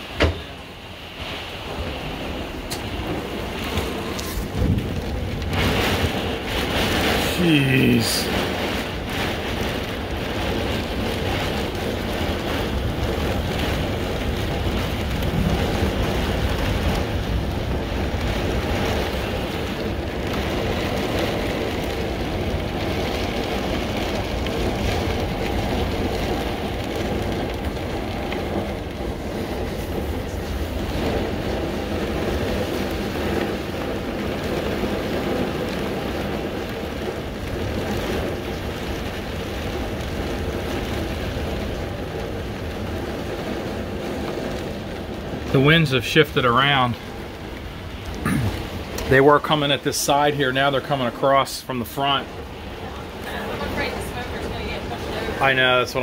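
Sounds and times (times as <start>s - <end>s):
gusting wind: 0.0s - 56.0s
heavy rain: 0.0s - 56.0s
wind rumble on microphone: 0.0s - 56.0s.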